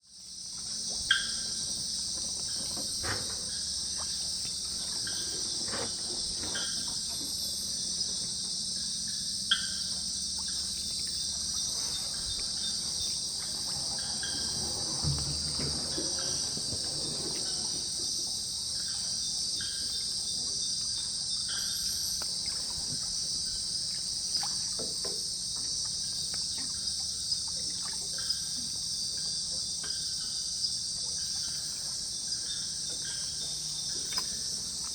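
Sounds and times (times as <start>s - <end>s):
night insects chorus: 0.0s - 34.9s.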